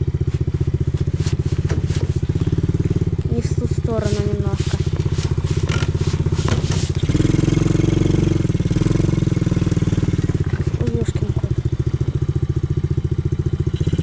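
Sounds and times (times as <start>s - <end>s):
atv engine chugging: 0.0s - 14.0s.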